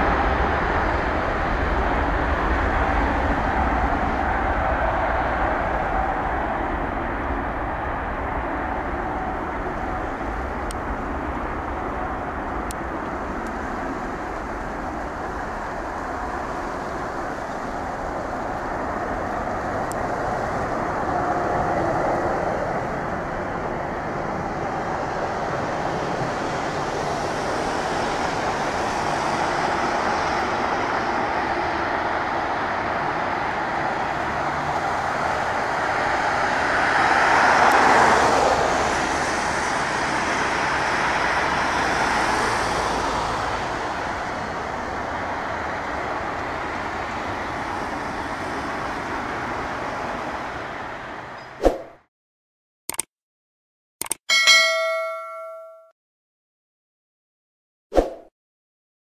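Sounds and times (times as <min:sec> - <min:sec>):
jet engines at takeoff: 0:00.0 - 0:51.5.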